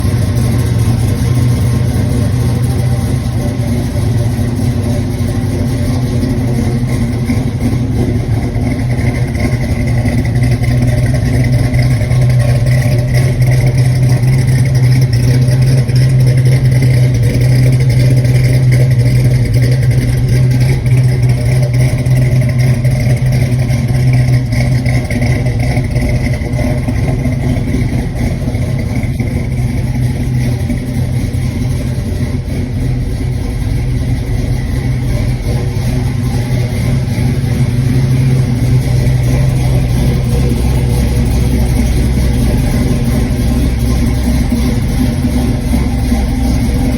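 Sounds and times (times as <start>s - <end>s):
lopey car engine idling: 0.0s - 46.9s.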